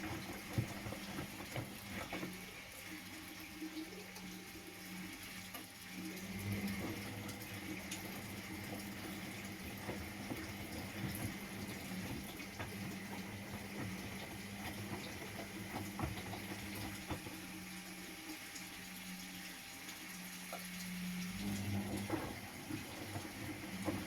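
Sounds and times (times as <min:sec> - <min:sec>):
water rushing into washing machine: 0:00.0 - 0:24.0.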